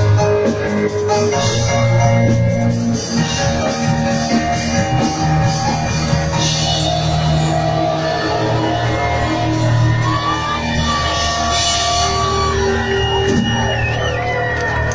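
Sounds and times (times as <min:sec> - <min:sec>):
keyboard long held notes: 0:00.0 - 0:14.9
live rock band playing: 0:00.0 - 0:14.9.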